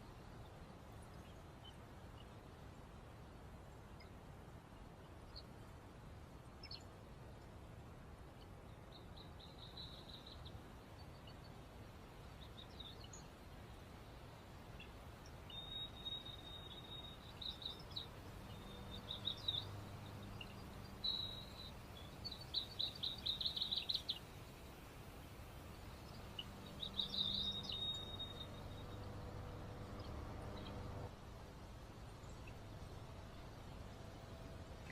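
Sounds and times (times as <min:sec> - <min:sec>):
background hiss: 0:00.0 - 0:34.9.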